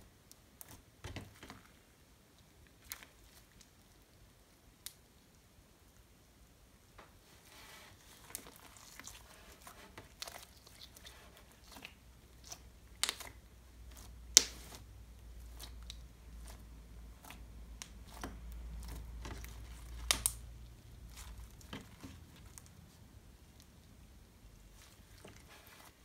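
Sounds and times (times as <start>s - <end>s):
slime squishing with wet pops: 0.2s - 6.1s, 7.9s - 26.0s.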